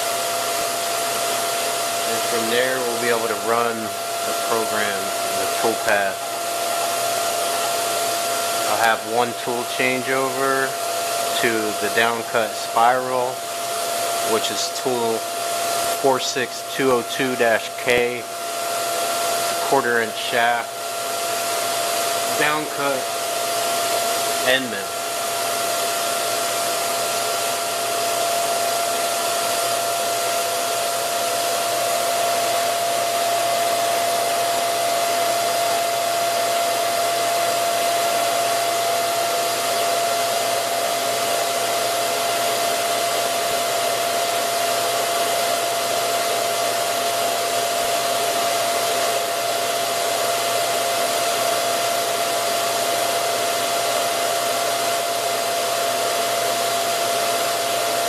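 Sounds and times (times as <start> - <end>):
electric motor and fan whirring: 0.0 - 58.0.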